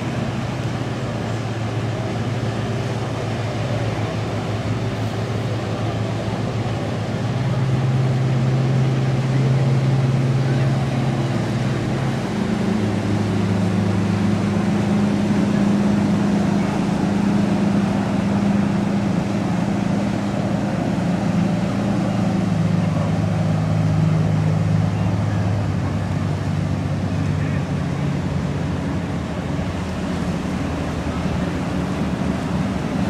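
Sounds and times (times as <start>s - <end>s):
boat engines droning: 0.0s - 33.0s.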